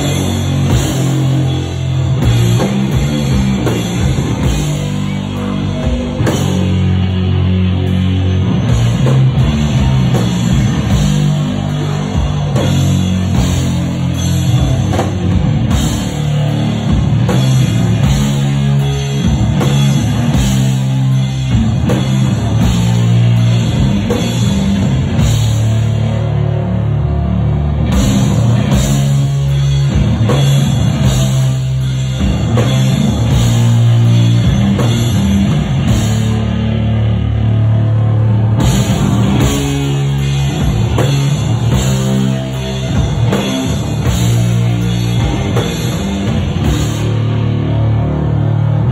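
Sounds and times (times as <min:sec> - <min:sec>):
distorted guitar riffs: 0:00.0 - 0:48.9
drum kit and cymbals: 0:00.0 - 0:48.9.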